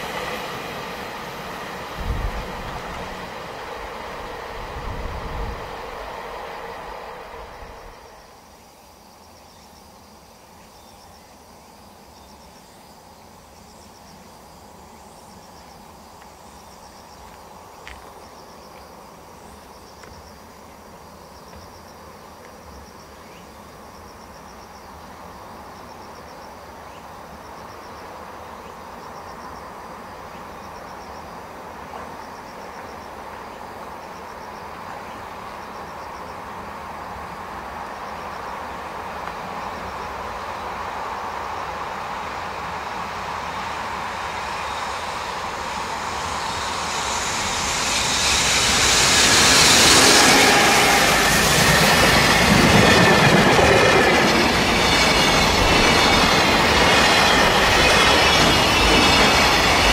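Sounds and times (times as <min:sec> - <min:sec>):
approaching train rumble: 0:00.0 - 0:59.9
insects chirping trills: 0:00.0 - 0:59.9.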